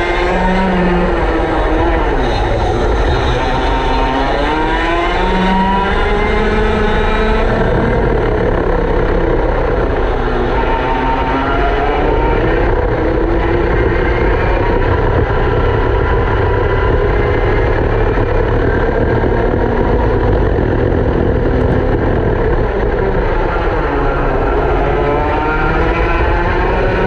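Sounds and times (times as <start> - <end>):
go-kart engine revving: 0.0 - 27.0
steady low rumble: 0.7 - 10.6, 12.1 - 25.3.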